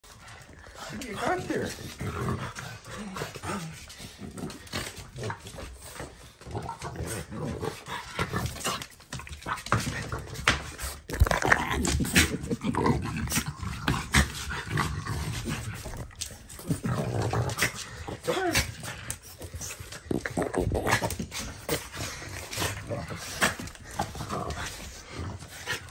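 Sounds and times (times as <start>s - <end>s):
dogs snorting: 0.0s - 25.9s.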